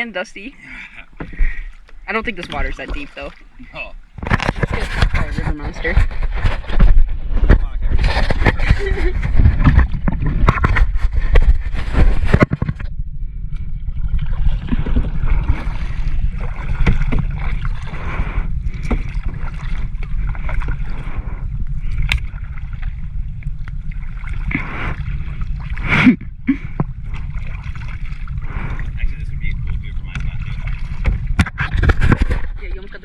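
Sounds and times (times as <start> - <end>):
paddle strokes splashing water: 0.0 - 12.9, 13.6 - 33.0
wind rumble on microphone: 1.0 - 33.0.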